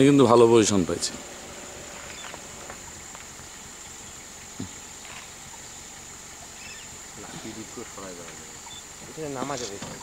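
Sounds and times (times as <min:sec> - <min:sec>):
high insect drone: 0:00.0 - 0:10.0
faint ticks and rustles: 0:01.8 - 0:10.0.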